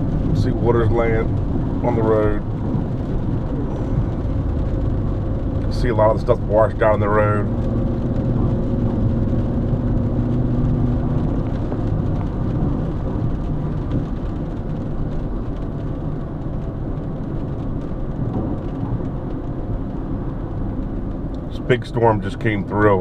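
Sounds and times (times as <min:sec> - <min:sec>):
low engine hum: 0:00.0 - 0:23.0
tyres on wet road: 0:00.0 - 0:23.0.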